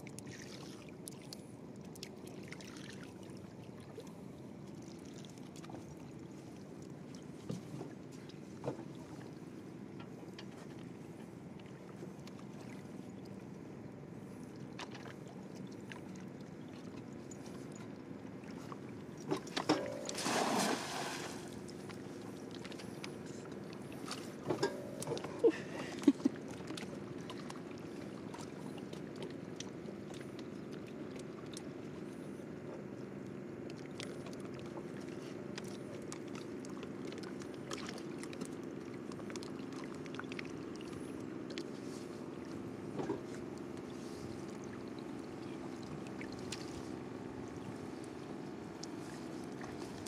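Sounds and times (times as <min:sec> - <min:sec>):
boat motor running: 0:00.0 - 0:50.0.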